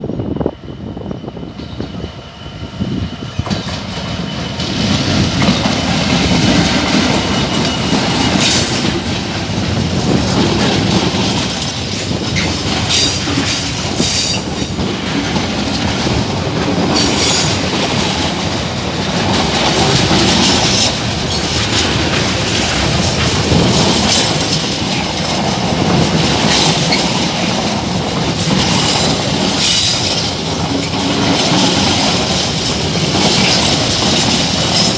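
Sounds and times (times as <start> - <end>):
diesel locomotive rumble: 0.0 - 34.9
wagon wheels clacking over rail joints: 3.4 - 34.9.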